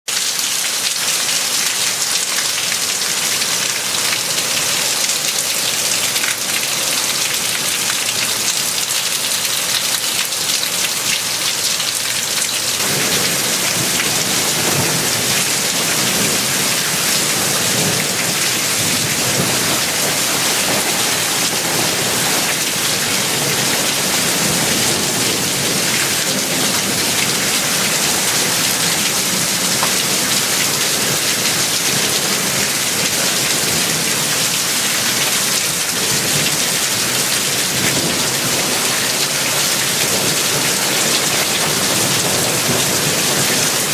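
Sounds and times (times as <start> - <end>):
rain pattering on surfaces: 0.1 - 43.9.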